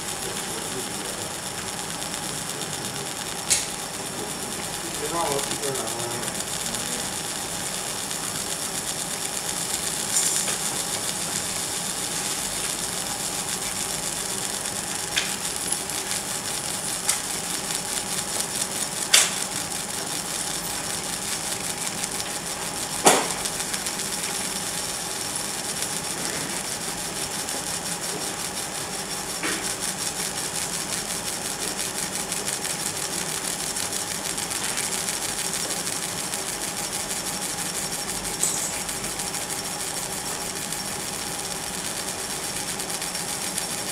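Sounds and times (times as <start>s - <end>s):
laser engraving buzzing hiss: 0.0s - 43.9s
machine hum with faint tones: 0.0s - 43.9s.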